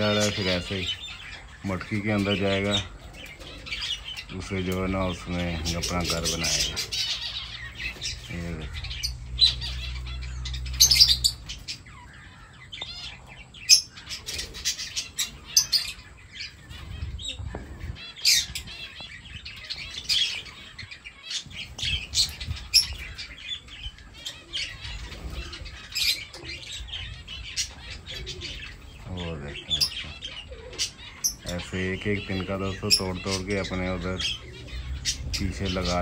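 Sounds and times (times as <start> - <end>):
lovebirds chirping: 0.0 - 36.0.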